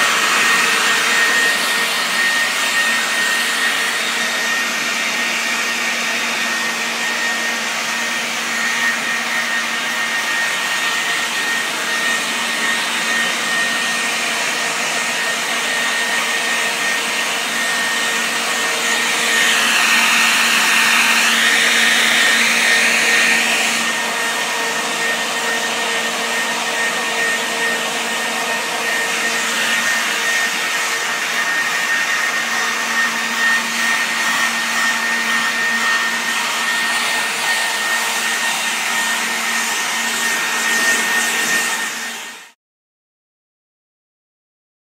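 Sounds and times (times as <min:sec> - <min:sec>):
electric leaf blower whining: 0:00.0 - 0:42.6.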